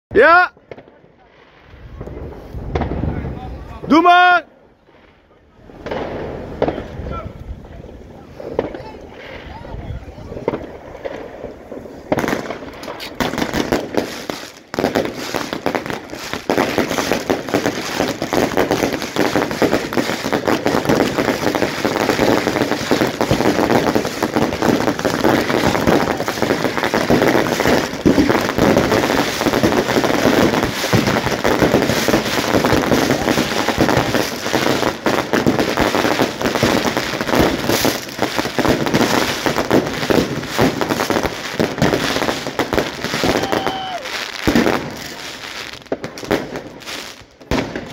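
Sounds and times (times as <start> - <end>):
fireworks shots and crackles: 0.1 - 47.9.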